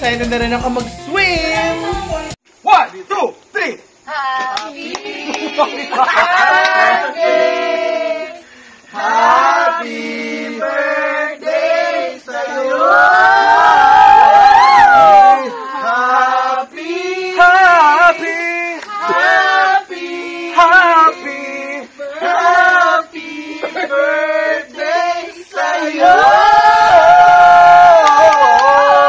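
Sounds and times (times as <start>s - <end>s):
group singing birthday song: 1.2s - 2.4s, 4.0s - 27.9s.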